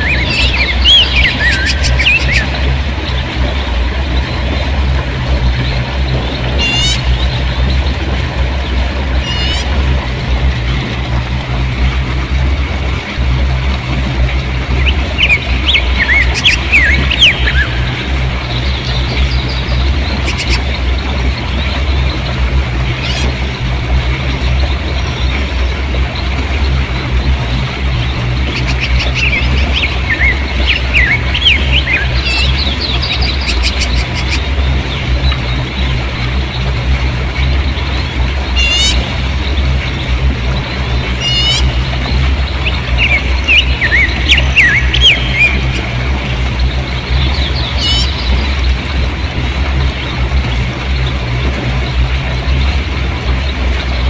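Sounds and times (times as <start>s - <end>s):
river water rushing over rocks: 0.0s - 54.0s
songbirds chirping: 0.0s - 54.0s.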